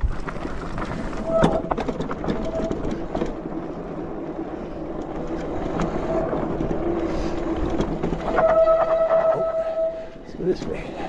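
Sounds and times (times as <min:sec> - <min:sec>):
bike rattling: 0:00.0 - 0:11.0
bike tyres on dirt trail: 0:00.0 - 0:11.0
brakes squealing: 0:00.4 - 0:11.0.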